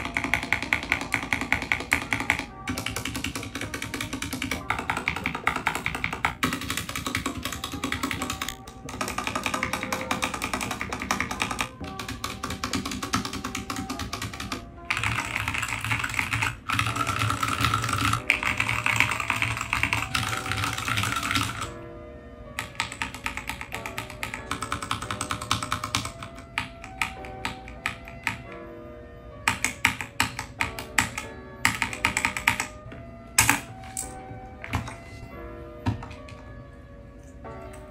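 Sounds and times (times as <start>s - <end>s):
mechanical keyboard typing: 0.0s - 21.8s, 22.6s - 28.6s, 29.4s - 32.8s, 33.4s - 35.0s.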